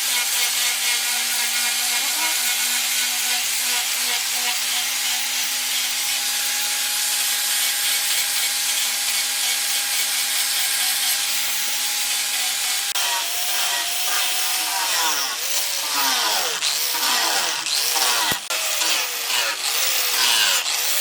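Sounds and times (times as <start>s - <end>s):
power tool grinding: 0.0s - 21.0s.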